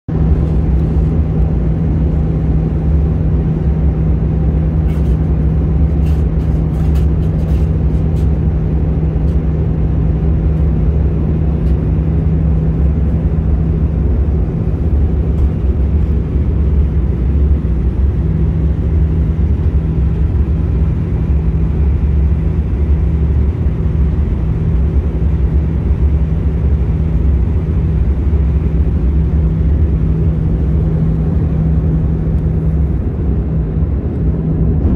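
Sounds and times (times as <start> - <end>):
airflow and jet engine rumble: 0.1 - 34.9
low hum: 0.1 - 34.9.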